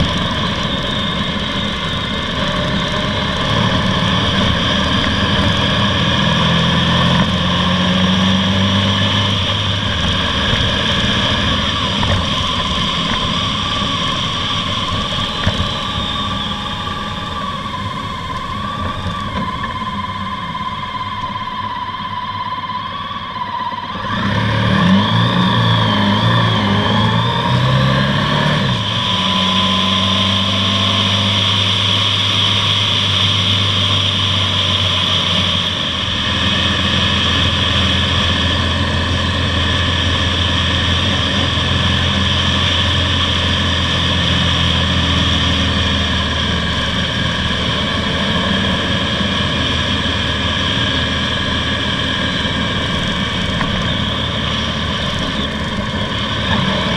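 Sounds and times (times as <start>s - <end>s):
motorcycle engine idling and accelerating: 0.0s - 56.9s.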